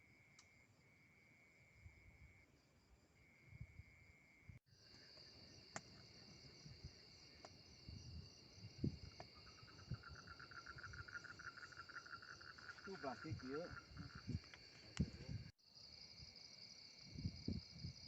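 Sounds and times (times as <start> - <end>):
crickets and insects trilling: 0.0 - 18.0
rapid pulsing insect call: 0.0 - 18.0.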